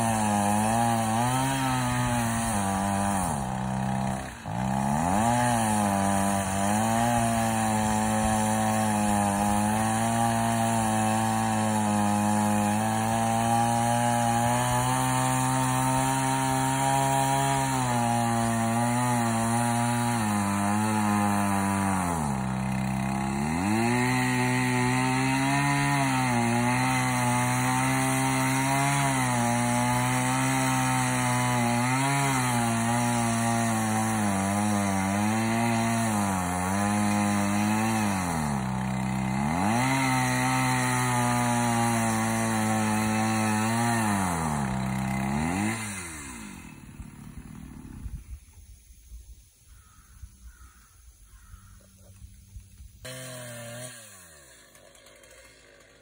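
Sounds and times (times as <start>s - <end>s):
chainsaw cutting wood: 0.0s - 48.8s, 51.4s - 56.0s.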